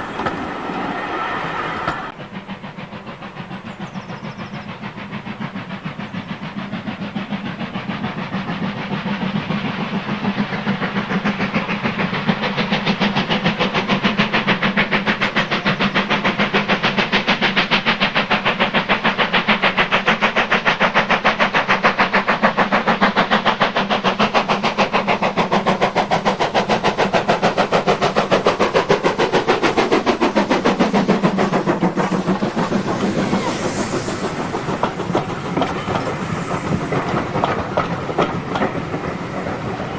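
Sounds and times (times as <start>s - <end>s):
carriages clattering on rails: 0.0s - 39.9s
hissing steam: 0.0s - 39.9s
steam locomotive exhaust beats: 0.0s - 39.9s.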